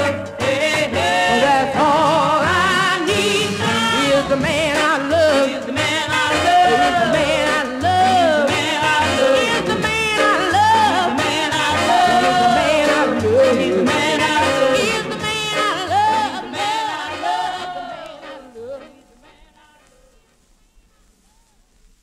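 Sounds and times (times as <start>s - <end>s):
steady bass line: 0.0s - 18.9s
orchestra: 0.0s - 19.4s
female vocal group singing: 0.0s - 20.2s.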